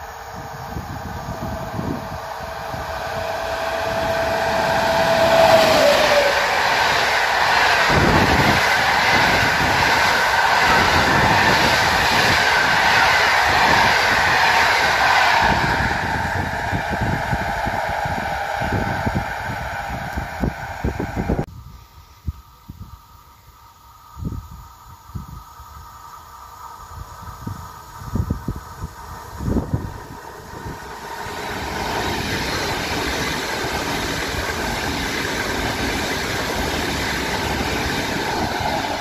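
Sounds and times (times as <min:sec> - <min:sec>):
freight train rumbling past: 0:00.0 - 0:21.5, 0:25.2 - 0:39.0
electric train passing: 0:00.0 - 0:39.0.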